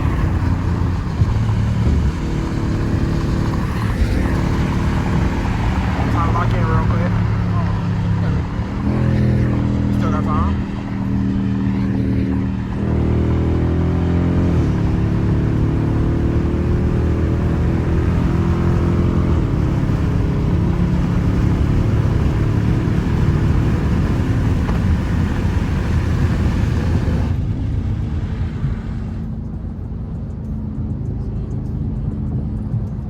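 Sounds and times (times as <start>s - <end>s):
car exhaust hard acceleration: 0.0s - 29.9s.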